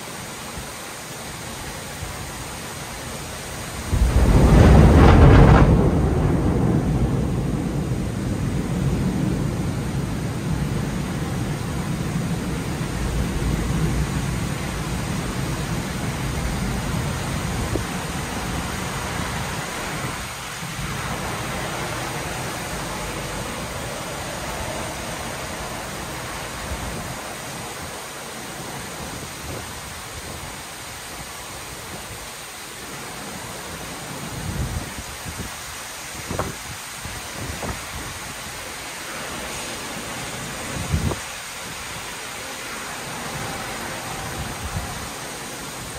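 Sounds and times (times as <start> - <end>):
torrential rain hissing: 0.0 - 45.9.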